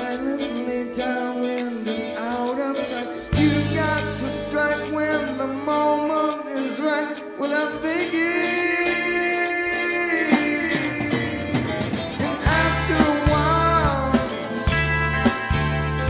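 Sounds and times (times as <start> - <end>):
drums: 0.0 - 6.9, 7.6 - 16.0
bass guitar: 0.0 - 16.0
electric guitars ringing: 0.0 - 16.0
person singing: 0.0 - 16.0.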